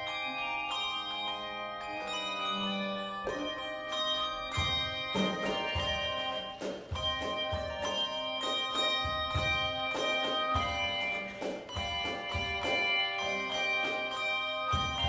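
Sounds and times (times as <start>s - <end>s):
handbells ringing in chords: 0.0s - 15.0s.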